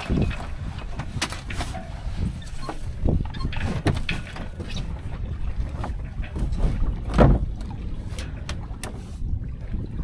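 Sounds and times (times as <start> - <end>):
lines and sailcloth rustling: 0.0 - 9.3
low wind rumble on microphone: 0.0 - 10.0.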